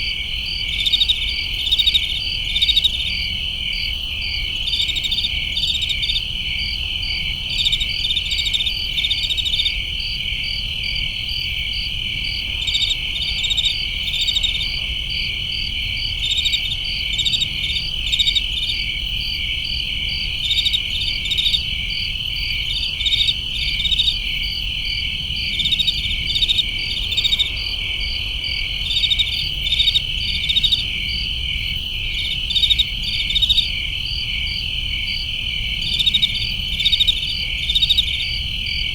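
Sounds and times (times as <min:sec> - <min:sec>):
cricket steady high trill: 0:00.0 - 0:38.9
crickets chirping in bursts: 0:00.0 - 0:38.9.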